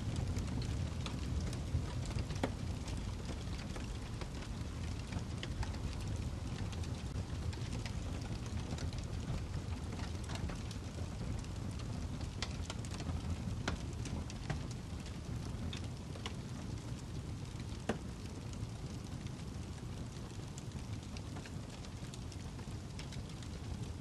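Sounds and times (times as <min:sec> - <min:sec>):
fire crackling and popping: 0:00.0 - 0:24.0
flames rumbling: 0:00.0 - 0:24.0.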